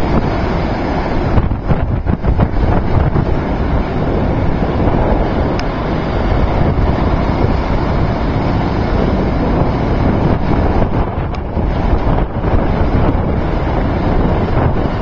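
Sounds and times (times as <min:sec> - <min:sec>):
storm waves: 0:00.0 - 0:15.0
strong wind buffeting microphone: 0:00.0 - 0:15.0.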